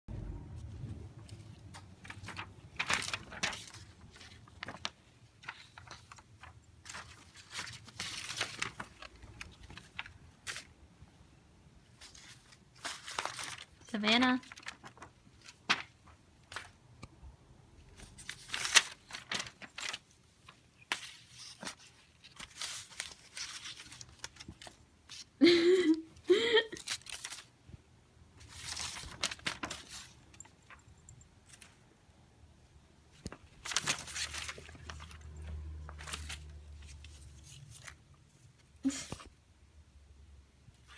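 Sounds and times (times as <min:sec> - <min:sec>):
paper rustling and crinkling: 0:00.6 - 0:10.8, 0:11.8 - 0:16.8, 0:17.9 - 0:27.6, 0:28.4 - 0:31.8, 0:33.1 - 0:39.4.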